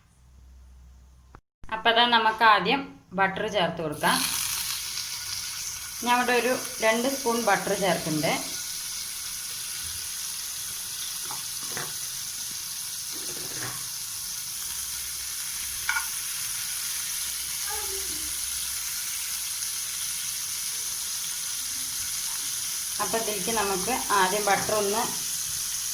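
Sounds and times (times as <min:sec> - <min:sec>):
butter sizzling in a pan: 0:04.0 - 0:25.9.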